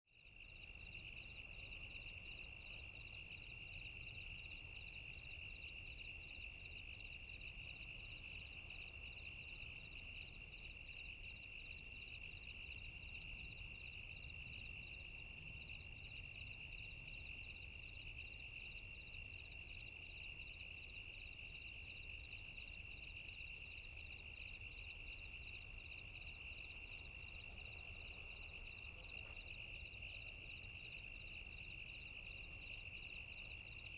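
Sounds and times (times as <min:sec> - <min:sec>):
crickets chirping: 0:00.2 - 0:33.9.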